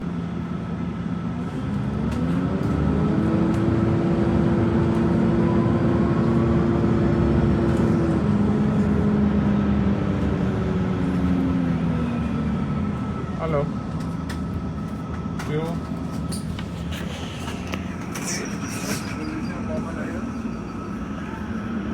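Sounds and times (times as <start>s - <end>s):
train rumble: 0.0s - 21.9s.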